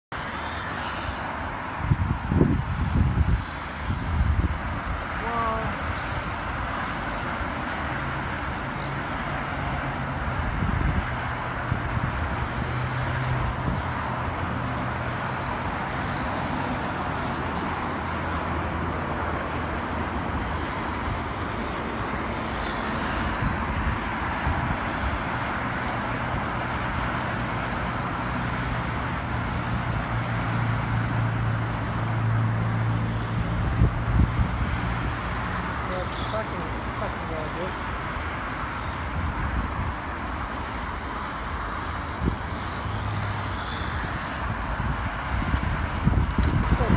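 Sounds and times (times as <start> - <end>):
road traffic rush: 0.0 - 46.9.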